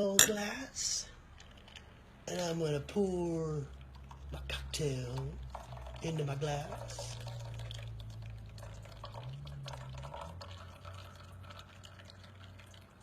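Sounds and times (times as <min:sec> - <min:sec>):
low steady hum: 0:00.0 - 0:13.0
cocktail pouring into glass: 0:01.3 - 0:13.0.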